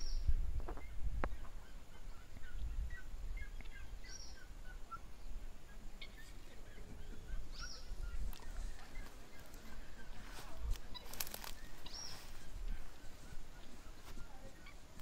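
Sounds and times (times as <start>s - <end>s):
guineafowl chirping calls: 0.0s - 15.0s.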